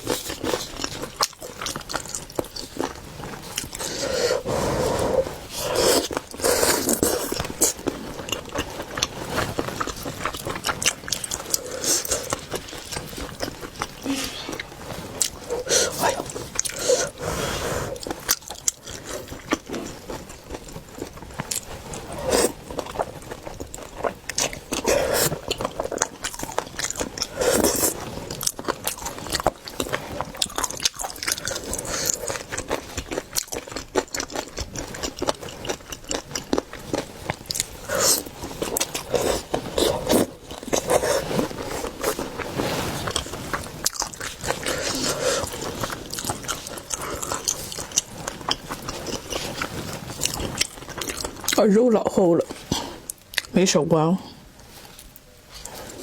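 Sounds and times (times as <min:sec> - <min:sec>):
chewing seafood: 0:00.0 - 0:53.6.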